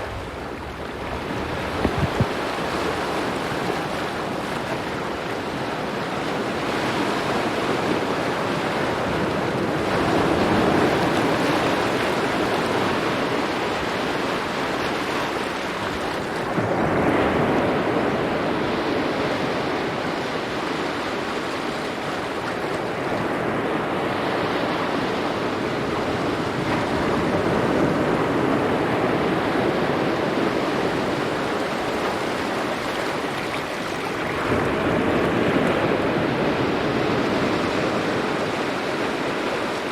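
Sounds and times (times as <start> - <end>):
sea waves breaking on rocks: 0.0 - 39.9.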